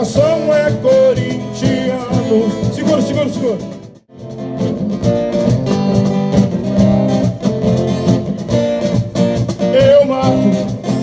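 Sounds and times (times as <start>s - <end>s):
instrumental band music: 0.0s - 11.0s.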